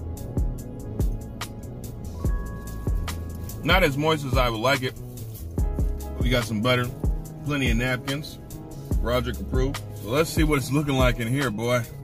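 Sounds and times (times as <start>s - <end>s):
background music with deep beat: 0.0s - 12.0s.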